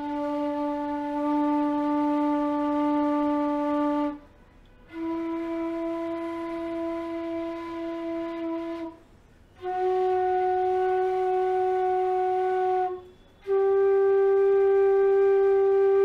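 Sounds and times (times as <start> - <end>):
bamboo flute long held notes: 0.0 - 16.0.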